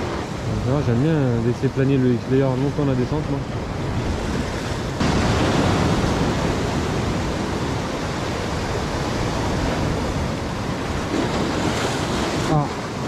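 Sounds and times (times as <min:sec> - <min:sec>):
surf breaking on rocks: 0:00.0 - 0:13.0.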